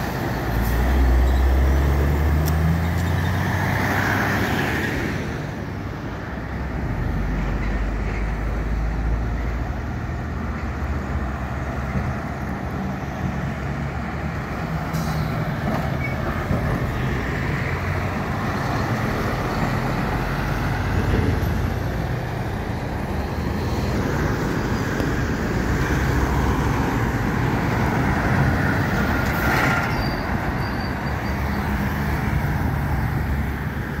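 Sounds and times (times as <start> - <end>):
heavy road traffic passing: 0.0 - 34.0.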